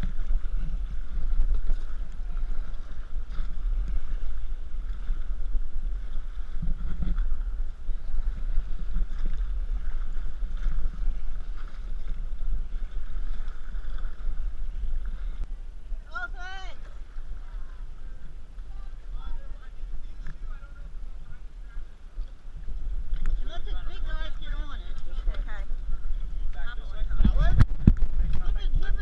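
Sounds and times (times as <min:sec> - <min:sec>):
wind buffeting microphone: 0:00.0 - 0:16.4, 0:17.0 - 0:29.0
river water lapping against raft: 0:00.0 - 0:29.0.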